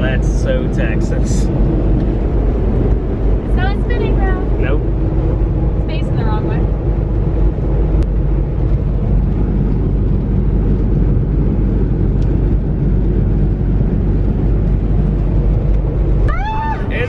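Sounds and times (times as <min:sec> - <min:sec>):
truck engine and road rumble: 0:00.0 - 0:17.0.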